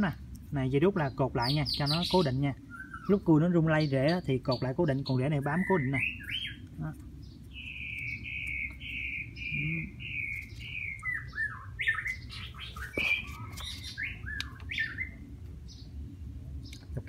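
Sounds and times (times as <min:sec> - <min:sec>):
bird singing: 0:00.0 - 0:17.0.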